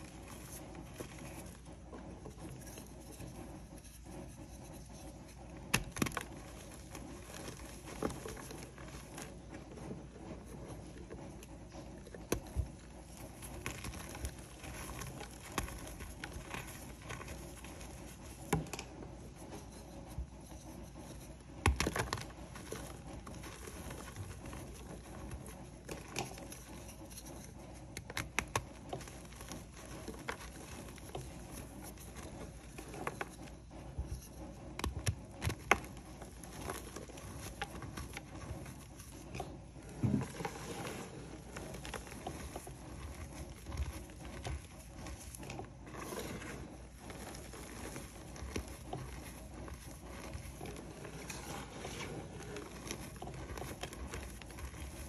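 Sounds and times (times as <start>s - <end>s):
chalk powder rubbing between fingers: 0.0s - 55.0s
chalk crunching and crumbling: 4.2s - 55.0s.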